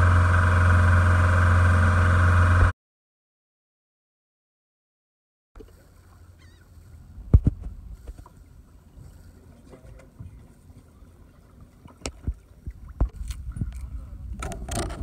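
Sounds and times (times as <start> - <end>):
boat engine rumble: 0.0 - 2.7, 5.6 - 15.0.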